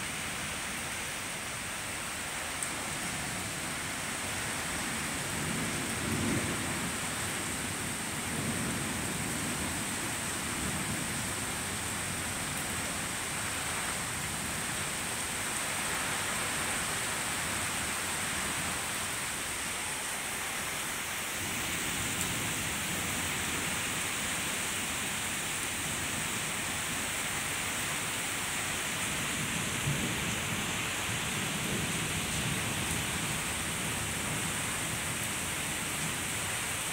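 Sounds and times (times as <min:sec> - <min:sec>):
steady rain pouring: 0:00.0 - 0:36.9.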